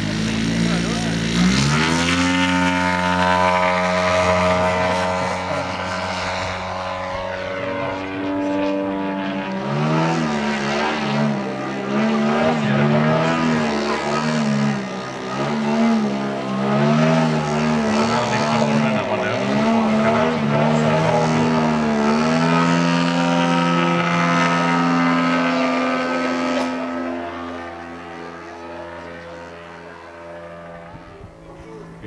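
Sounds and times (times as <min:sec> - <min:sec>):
model airplane engine and propeller: 0:00.0 - 0:32.0.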